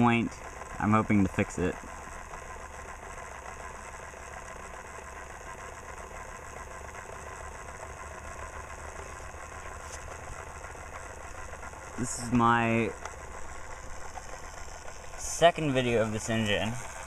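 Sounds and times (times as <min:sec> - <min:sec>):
small electric motor whirring: 0:00.0 - 0:17.0.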